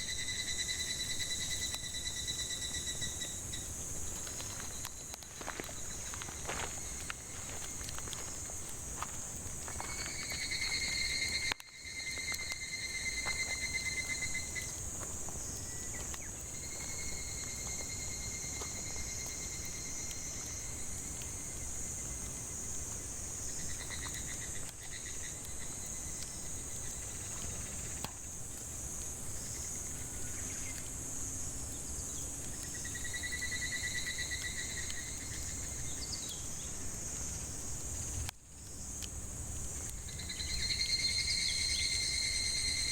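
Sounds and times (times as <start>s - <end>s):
pulsing insect call: 0.0s - 39.0s, 39.6s - 42.9s
cicadas chorus: 0.0s - 42.9s
firewood crackling: 1.0s - 42.4s.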